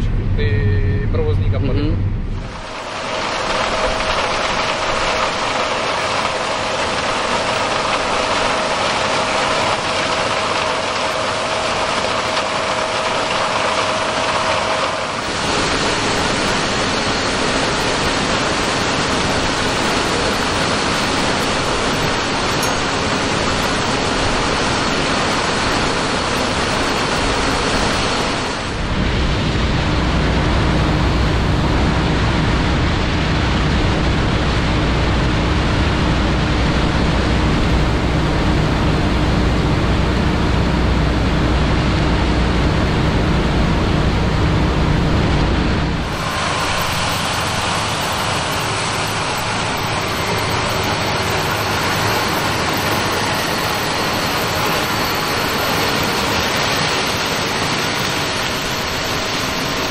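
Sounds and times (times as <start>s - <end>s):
low engine hum: 0.0s - 59.8s
harvesting machinery running: 0.0s - 59.9s
steady whine: 0.0s - 59.9s
loud rushing hiss: 2.3s - 59.9s.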